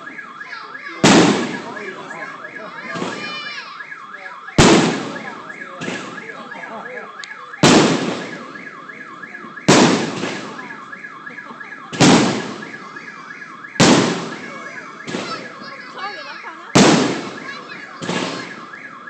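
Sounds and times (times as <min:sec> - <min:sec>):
car alarm whooping: 0:00.0 - 0:19.0
fireworks bangs: 0:00.0 - 0:19.0.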